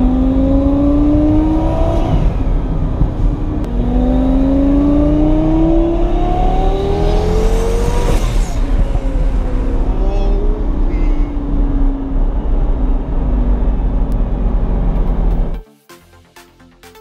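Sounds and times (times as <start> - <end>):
car engine accelerating: 0.0 - 15.6.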